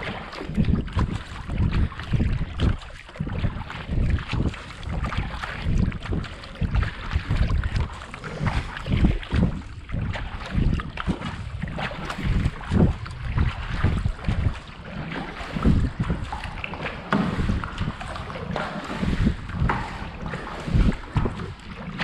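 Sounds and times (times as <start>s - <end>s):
kayak paddle strokes in water: 0.0s - 22.0s
wind buffeting microphone: 0.0s - 22.0s.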